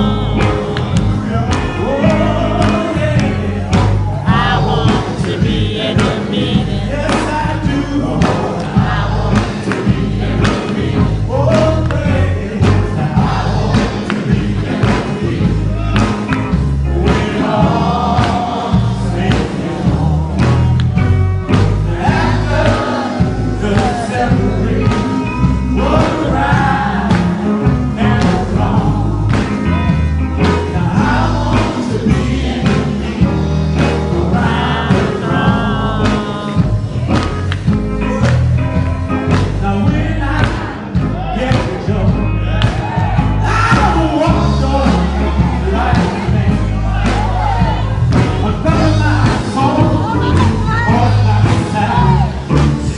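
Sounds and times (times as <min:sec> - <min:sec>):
band with heavy bass: 0:00.0 - 0:52.9
male voices singing in harmony: 0:00.0 - 0:52.9
steady drum beat: 0:00.0 - 0:52.9.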